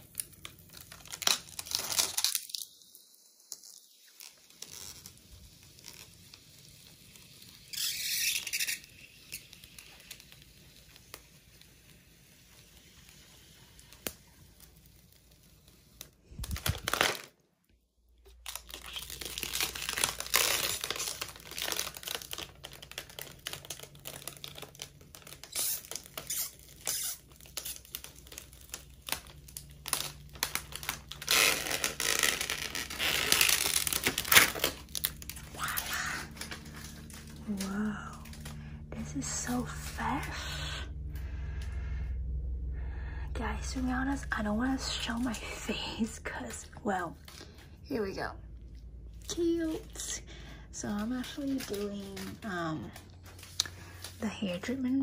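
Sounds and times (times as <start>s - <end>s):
plastic film peeling and crinkling: 0.0s - 41.3s, 42.2s - 48.1s, 49.1s - 55.0s.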